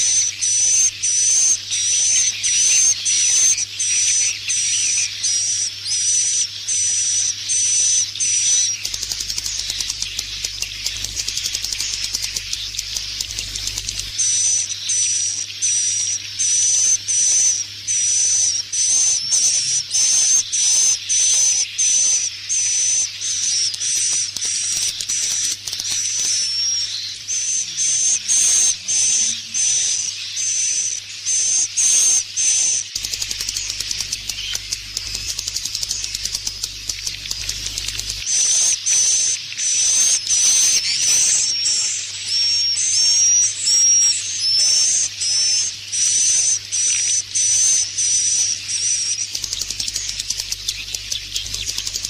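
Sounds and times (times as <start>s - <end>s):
swiftlets twittering: 0.0s - 52.0s.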